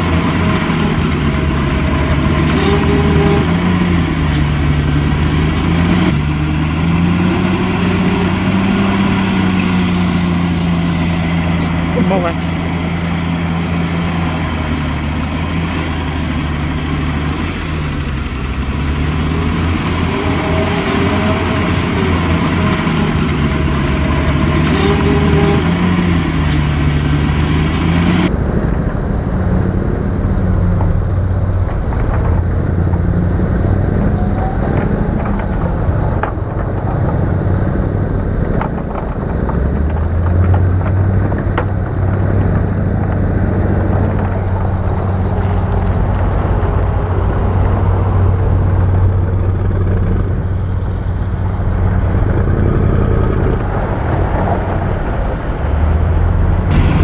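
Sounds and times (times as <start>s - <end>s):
diesel machine engine running: 0.0s - 57.0s.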